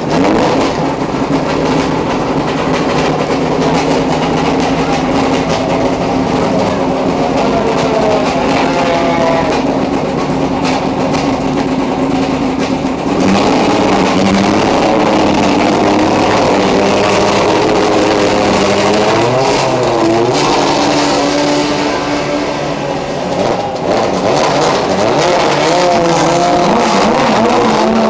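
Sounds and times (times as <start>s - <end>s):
race car engine idling: 0.0s - 28.0s.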